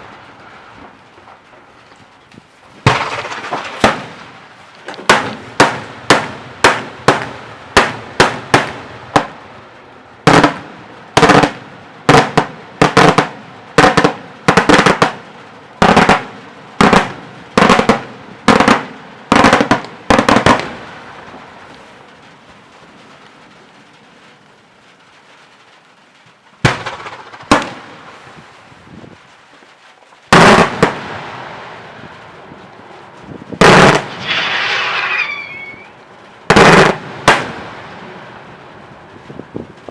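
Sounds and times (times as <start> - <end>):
fireworks bangs: 0.0 - 39.9
heavy firework blasts: 0.0 - 39.9.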